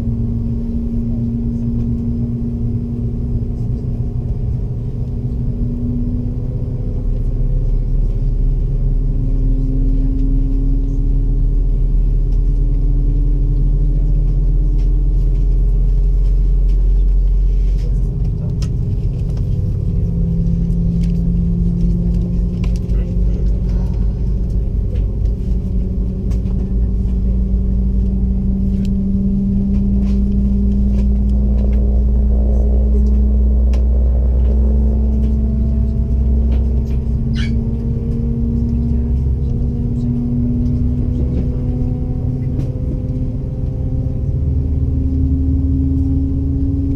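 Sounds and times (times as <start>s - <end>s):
aircraft cabin rumble: 0.0s - 46.9s
engine and air-system hum: 0.0s - 46.9s.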